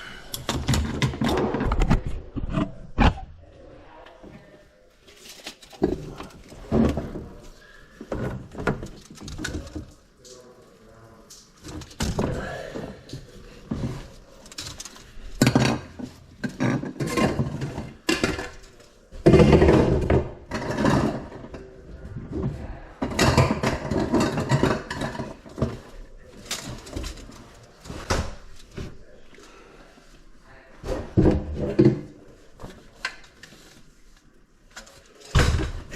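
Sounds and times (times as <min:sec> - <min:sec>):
pipe parts and tools clattering: 0:00.2 - 0:03.4, 0:05.1 - 0:29.5, 0:30.8 - 0:35.9.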